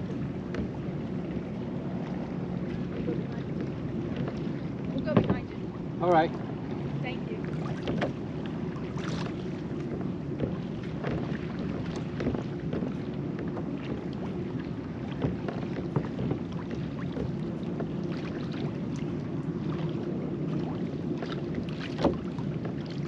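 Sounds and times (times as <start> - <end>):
light ticks and splashes: 0.0 - 23.0
shallow water lapping: 0.0 - 23.0
wind rumbling on microphone: 0.0 - 23.0.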